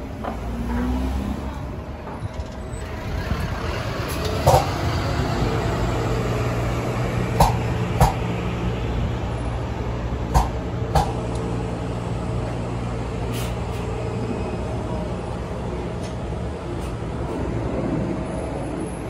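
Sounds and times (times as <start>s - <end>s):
bus driving past: 0.0s - 19.0s.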